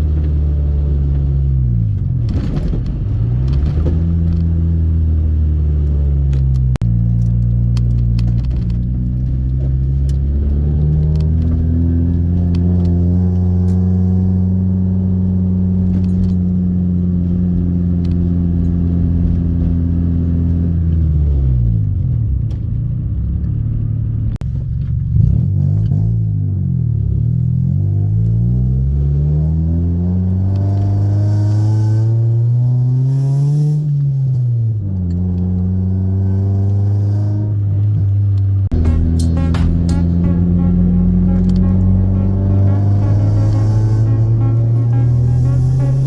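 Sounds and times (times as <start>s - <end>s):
car engine driving: 0.0s - 46.0s.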